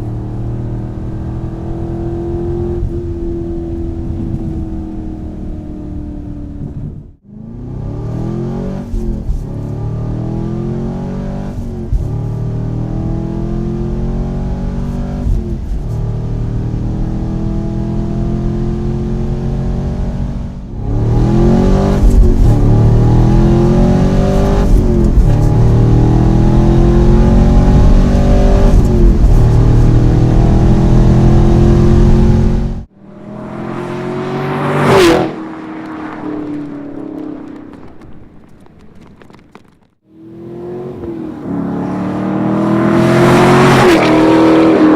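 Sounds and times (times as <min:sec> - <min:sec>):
car engine accelerating hard: 0:00.0 - 0:37.7, 0:40.2 - 0:44.9.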